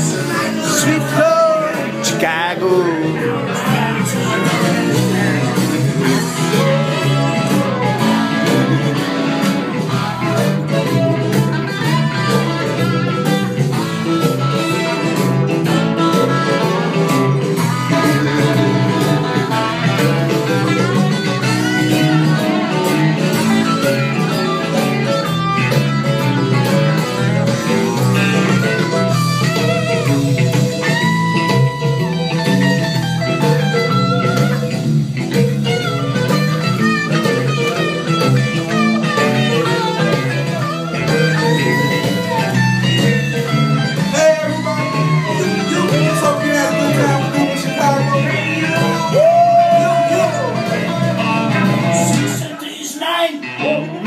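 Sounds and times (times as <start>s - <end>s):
loud guitar-led music: 0.0s - 54.0s.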